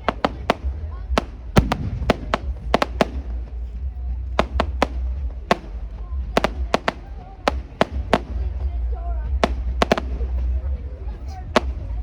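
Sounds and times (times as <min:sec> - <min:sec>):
fireworks cracking and banging: 0:00.0 - 0:12.0
low rumble: 0:00.0 - 0:12.0.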